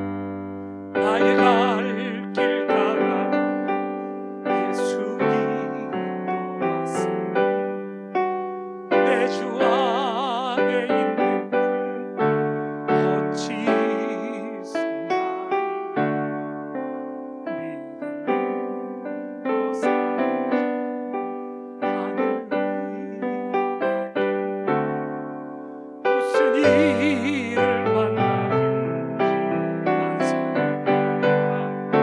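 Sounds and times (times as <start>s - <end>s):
electric piano playing chords: 0.0s - 32.0s.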